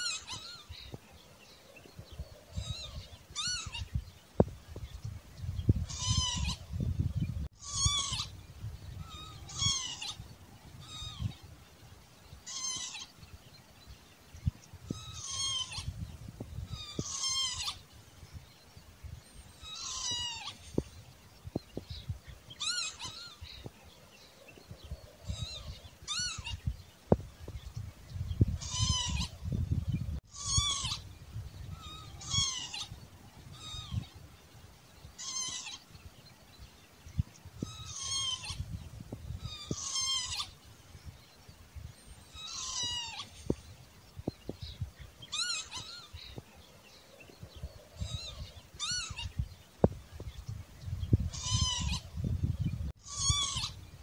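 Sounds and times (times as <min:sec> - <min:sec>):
lapwing calling: 0:00.0 - 0:01.0, 0:01.6 - 0:04.2, 0:05.7 - 0:11.6, 0:12.4 - 0:13.4, 0:14.5 - 0:18.4, 0:19.2 - 0:36.1, 0:37.1 - 0:54.0.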